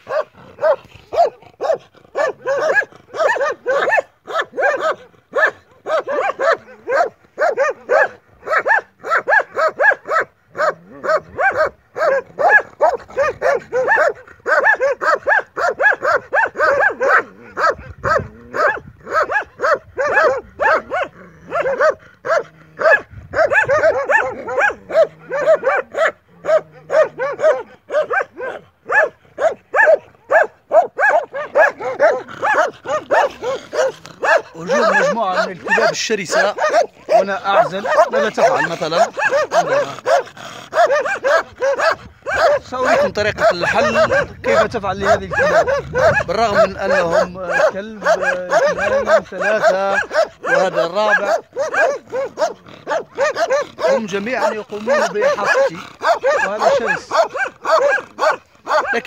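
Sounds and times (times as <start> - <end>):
dogs barking: 0.0 - 59.0.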